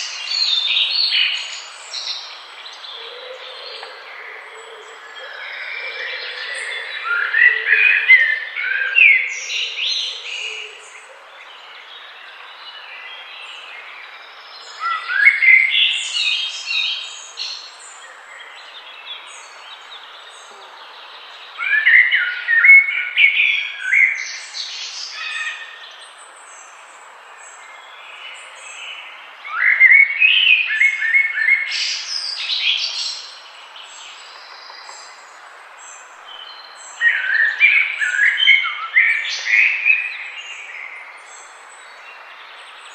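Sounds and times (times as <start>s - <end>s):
faint steady hiss: 0.0s - 42.9s
songbird singing: 0.0s - 42.9s.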